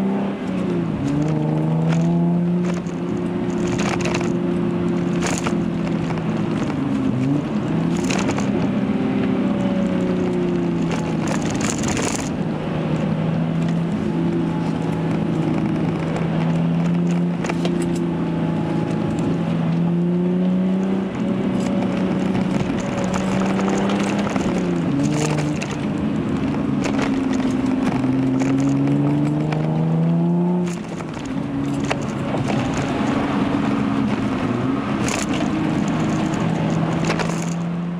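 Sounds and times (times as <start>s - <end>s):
car engine accelerating: 0.0s - 37.9s.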